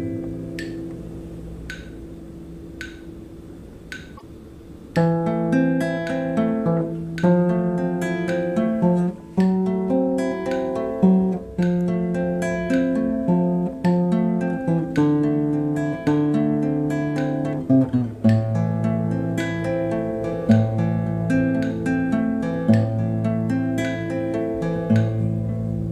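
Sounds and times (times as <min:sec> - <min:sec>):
acoustic guitar strumming chords: 0:00.0 - 0:03.3, 0:05.0 - 0:25.9.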